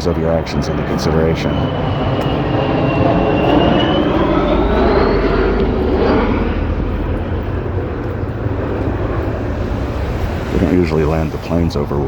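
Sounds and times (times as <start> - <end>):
airliner jet engine passing overhead: 0.0 - 12.0.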